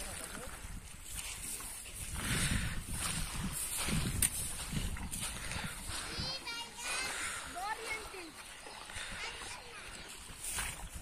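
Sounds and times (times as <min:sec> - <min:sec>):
footsteps on grass: 0:00.7 - 0:11.0.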